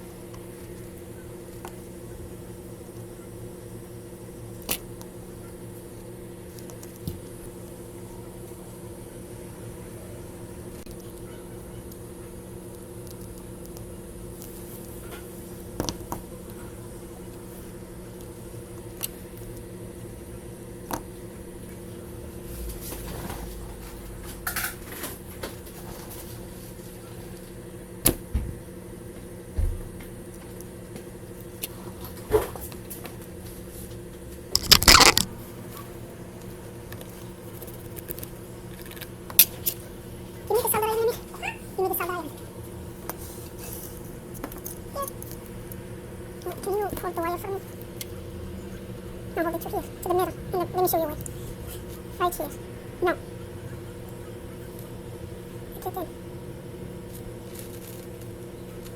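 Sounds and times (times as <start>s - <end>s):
electrical hum of equipment: 0.0s - 58.9s.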